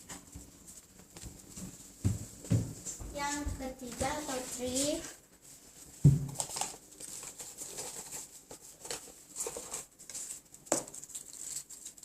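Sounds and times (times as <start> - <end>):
rustling and tapping objects: 0.0 - 12.0.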